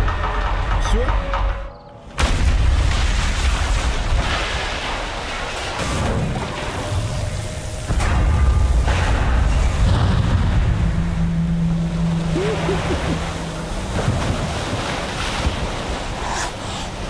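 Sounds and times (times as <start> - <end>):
rushing floodwater: 2.2 - 17.0.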